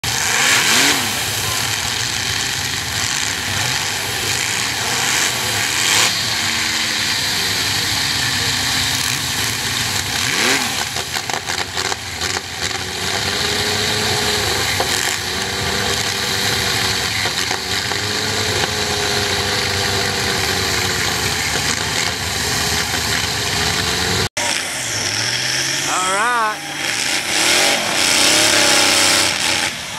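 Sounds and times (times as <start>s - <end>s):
racing chainsaw engines revving: 0.0s - 29.9s.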